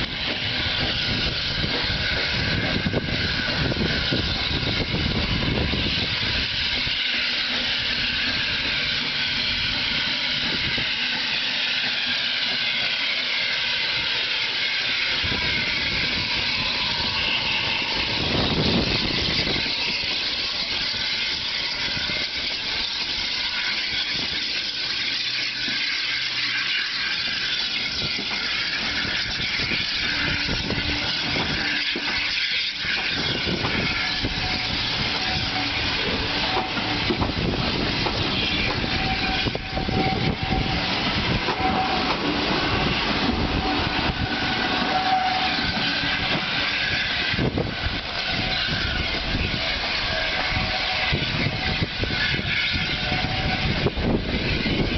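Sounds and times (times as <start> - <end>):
train wheels clattering over rails: 0.0 - 54.9
wheels squealing: 0.0 - 54.9.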